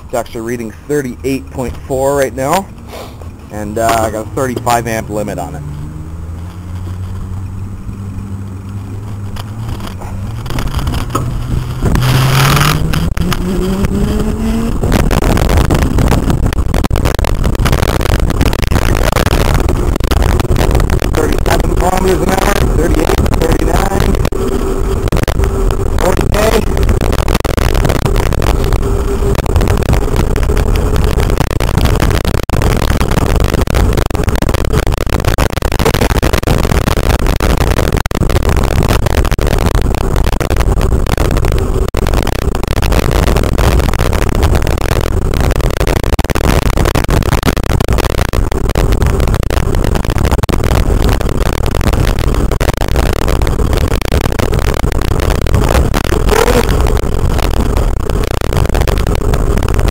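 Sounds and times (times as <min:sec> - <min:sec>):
hub motor whine: 0:00.0 - 0:59.9
road noise: 0:00.0 - 0:59.9
wind rush: 0:01.2 - 0:59.9.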